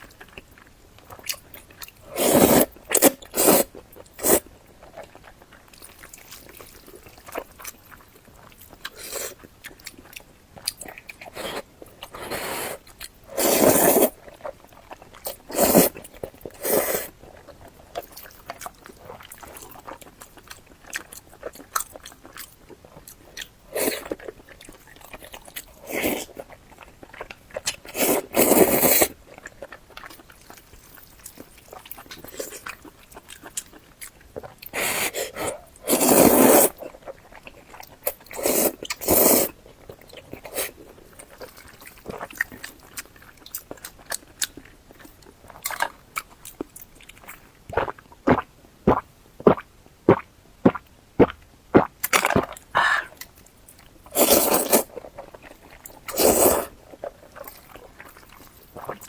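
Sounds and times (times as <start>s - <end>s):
chewing food: 0.0s - 59.0s.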